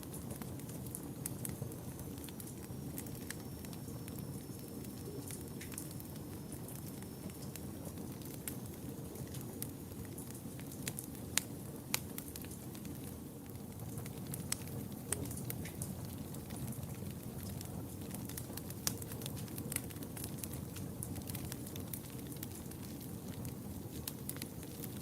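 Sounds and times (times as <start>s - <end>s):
fire crackles and pops: 0.0s - 25.0s.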